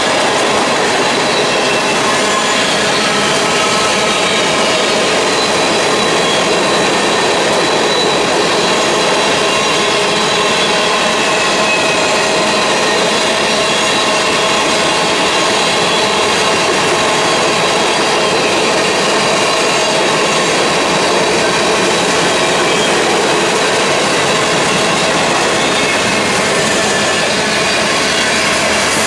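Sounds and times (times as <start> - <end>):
train wheels rolling on rails: 0.0 - 29.0.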